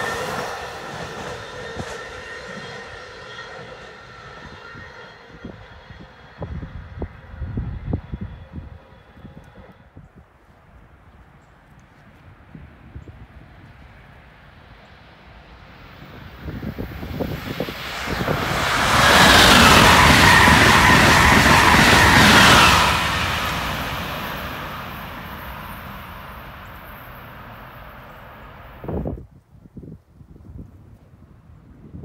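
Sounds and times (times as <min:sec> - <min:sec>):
high-speed train passing: 0:00.0 - 0:29.2.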